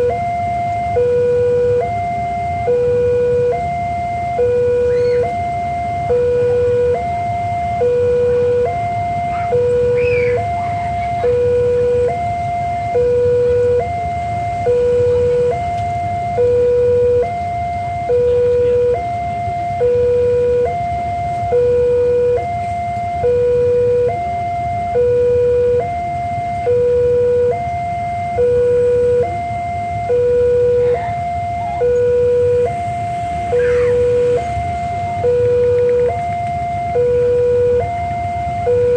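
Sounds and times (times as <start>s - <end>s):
two-tone level crossing alarm: 0.0s - 38.9s.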